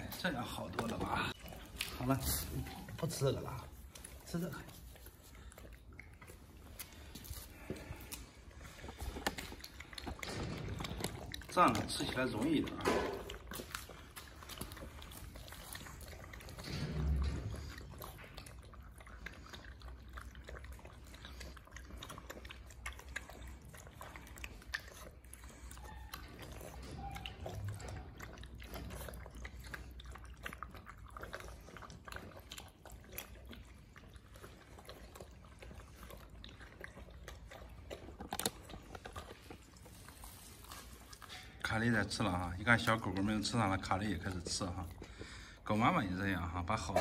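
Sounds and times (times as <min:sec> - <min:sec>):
puppies lapping and chewing: 0:00.0 - 0:47.0.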